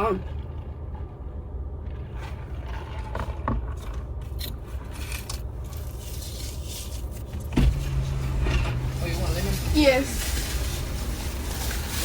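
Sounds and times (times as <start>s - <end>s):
car engine idling: 0.0s - 12.0s
scraping and rustling: 0.0s - 12.0s.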